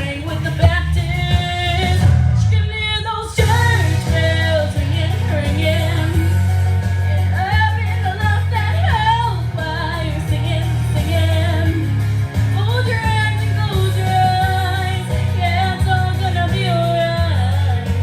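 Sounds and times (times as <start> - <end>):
girl singing: 0.0 - 6.4, 7.1 - 11.8, 12.6 - 17.8
instrumental backing track: 0.0 - 18.0.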